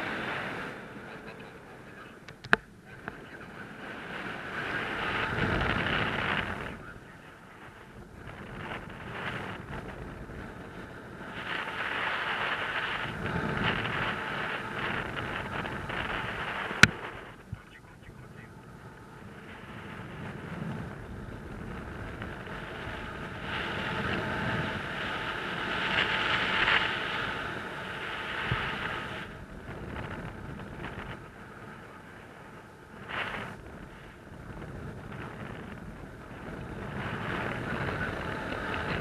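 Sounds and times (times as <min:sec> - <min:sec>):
wind gusts on microphone: 0:00.0 - 0:39.0.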